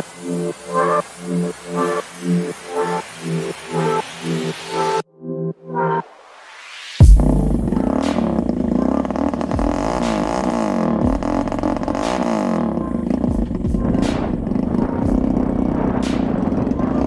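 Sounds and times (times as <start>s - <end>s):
kart engine running: 0.0s - 5.0s, 7.1s - 17.0s.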